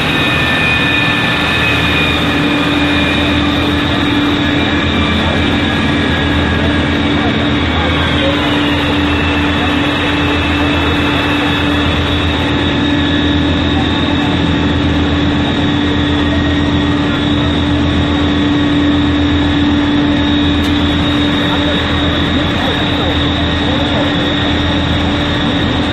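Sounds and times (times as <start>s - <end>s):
firefighting equipment droning: 0.0s - 25.9s.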